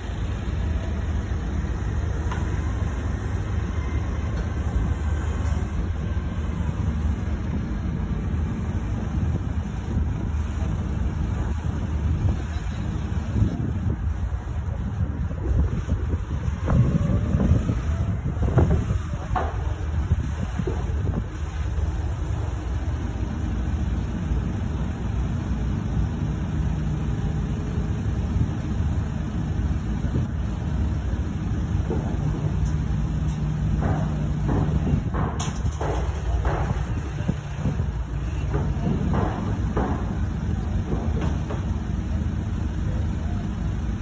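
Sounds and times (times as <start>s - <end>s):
engine running: 0.0s - 44.0s
wind buffeting microphone: 0.0s - 44.0s.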